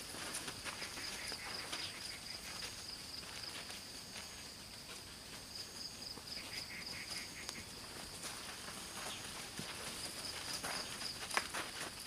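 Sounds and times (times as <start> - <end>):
insects chirping in a trill: 0.0 - 12.0
steady outdoor hiss: 0.0 - 12.0.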